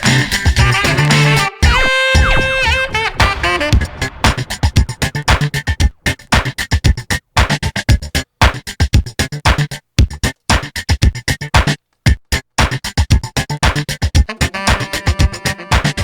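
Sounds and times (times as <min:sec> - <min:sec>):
drum machine beat: 0:00.0 - 0:16.0.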